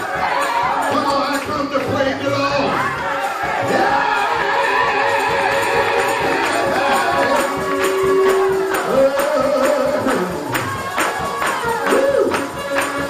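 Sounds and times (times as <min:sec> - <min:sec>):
accompanying instruments: 0:00.0 - 0:13.0
person singing gospel: 0:00.0 - 0:13.0
tambourine beat: 0:00.0 - 0:13.0.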